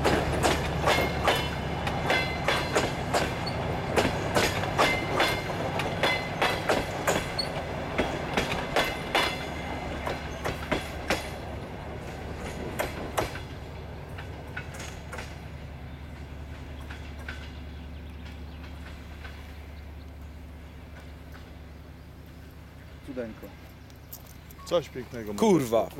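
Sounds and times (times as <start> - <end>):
train wheels clicking over rail joints: 0.0 - 22.7
diesel locomotive drone: 0.0 - 25.9.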